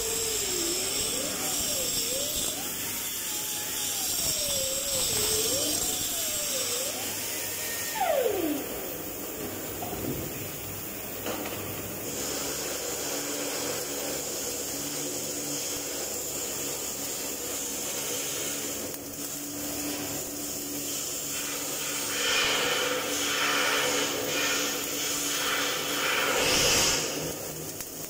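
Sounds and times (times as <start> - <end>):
welding arc hiss and crackle: 0.0 - 28.0.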